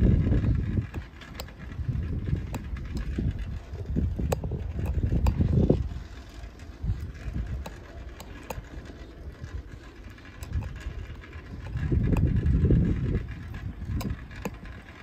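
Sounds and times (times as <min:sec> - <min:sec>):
bicycle clicks and rattles: 0:00.0 - 0:15.0
wind buffeting microphone: 0:00.0 - 0:15.0.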